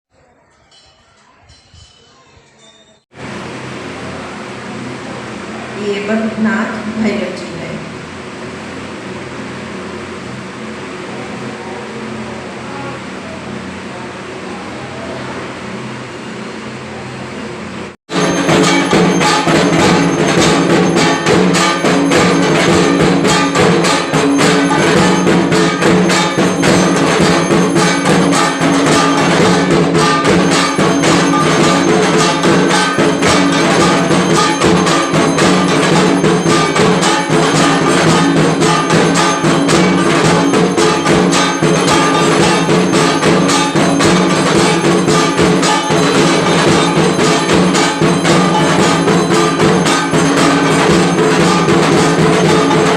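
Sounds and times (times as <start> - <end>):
temple bells clanging rapidly: 0.2 - 11.5, 18.1 - 52.9
low ringing hum: 0.2 - 52.9.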